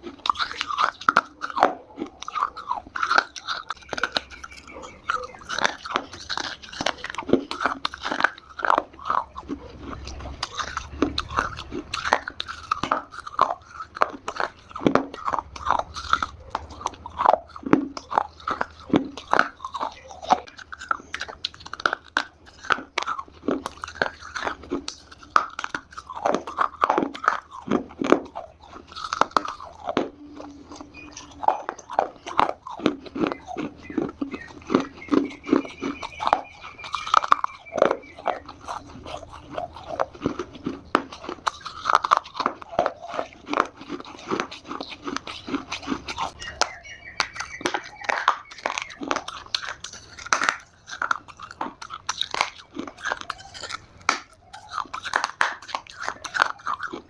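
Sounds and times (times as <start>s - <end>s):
crunchy chewing of clay: 0.0s - 57.0s.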